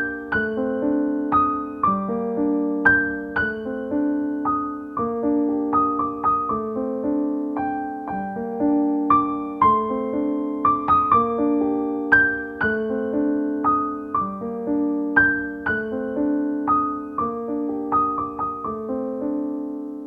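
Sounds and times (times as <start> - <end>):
slow gentle piano piece: 0.0 - 20.0.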